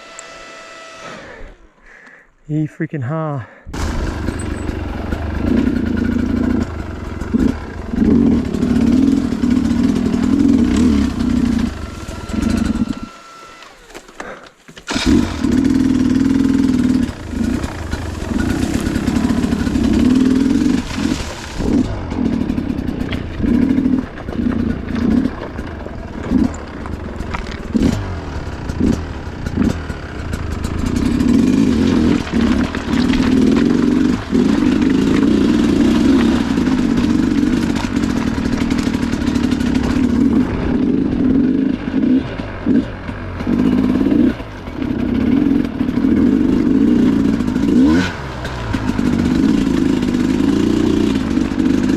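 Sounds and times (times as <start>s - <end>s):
dirt bike engine revving: 0.0s - 2.1s, 3.7s - 51.9s.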